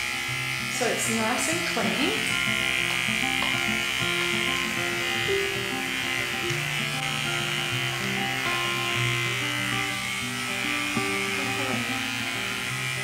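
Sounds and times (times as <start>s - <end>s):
background music: 0.0s - 13.0s
electric clippers buzzing: 0.0s - 13.0s.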